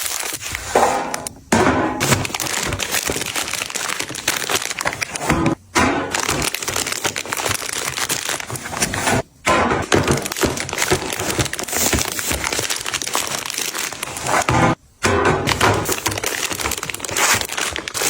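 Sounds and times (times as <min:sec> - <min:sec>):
packaging crinkling and rustling: 0:00.0 - 0:14.8, 0:15.4 - 0:18.0.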